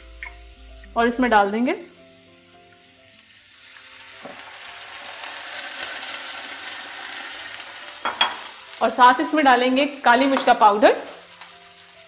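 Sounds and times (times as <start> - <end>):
liquid sizzling in frying pan: 0.0 - 12.0.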